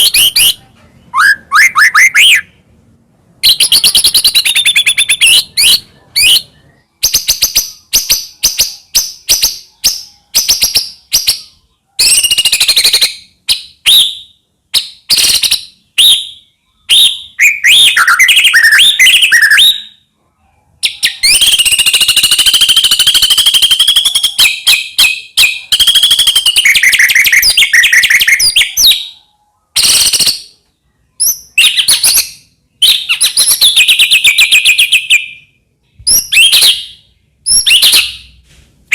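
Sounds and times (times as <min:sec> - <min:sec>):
bird singing varied song: 0:00.0 - 0:02.8, 0:03.4 - 0:38.4.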